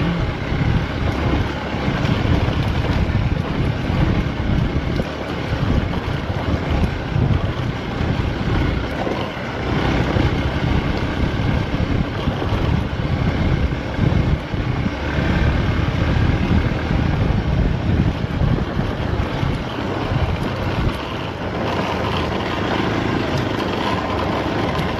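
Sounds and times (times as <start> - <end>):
vehicle rumbling off-road: 0.0 - 24.9
wind buffeting microphone: 0.0 - 24.9.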